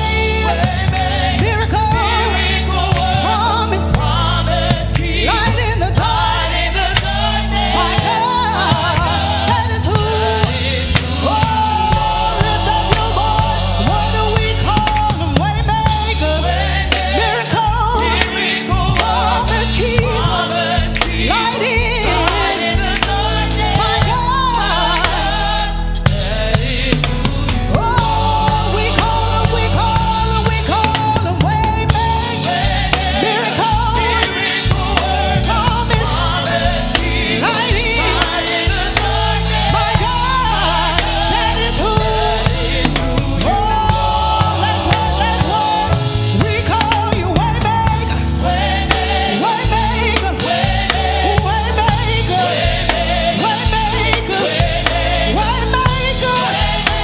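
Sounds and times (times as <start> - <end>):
band with bass and drums: 0.0 - 57.0
singers holding long notes: 0.0 - 57.0.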